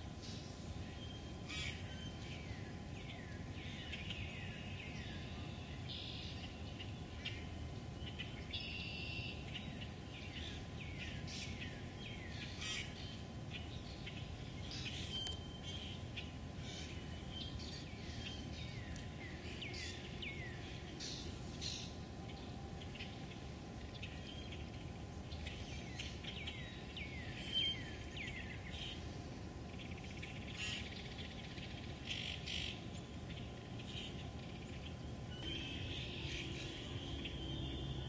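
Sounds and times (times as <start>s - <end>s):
birds chirping: 0.0s - 38.0s
low background rumble: 0.0s - 38.0s.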